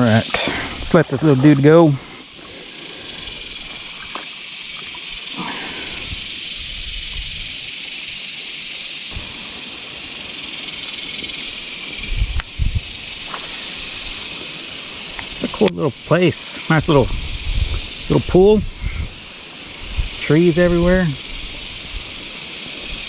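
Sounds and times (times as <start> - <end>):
insect chorus buzzing: 0.0 - 23.0.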